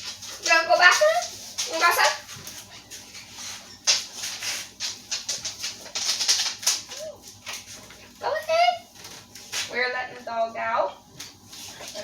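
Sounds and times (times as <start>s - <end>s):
dog moving with clicks and rattles: 0.0s - 9.7s.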